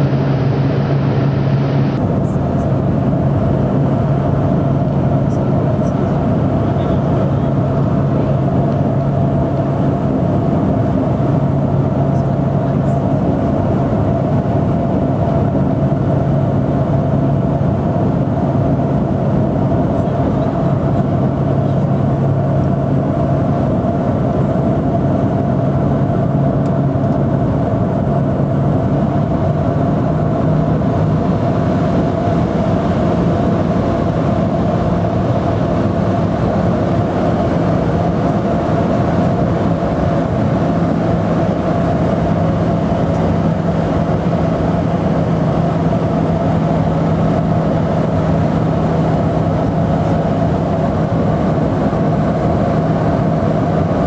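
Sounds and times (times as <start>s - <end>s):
propeller engines droning in cabin: 0.0s - 54.0s.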